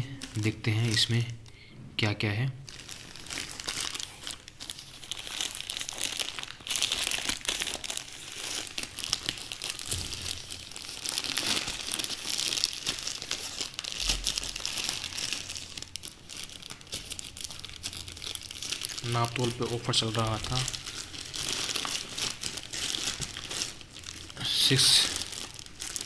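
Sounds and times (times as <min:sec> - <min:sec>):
plastic mailer bag crinkling and tearing: 0:00.0 - 0:01.3, 0:02.7 - 0:26.0.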